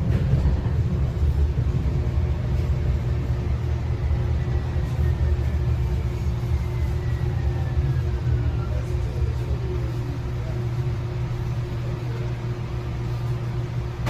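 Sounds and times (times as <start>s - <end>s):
train rumble with hum: 0.0s - 14.0s
faint falling whine: 0.6s - 14.0s.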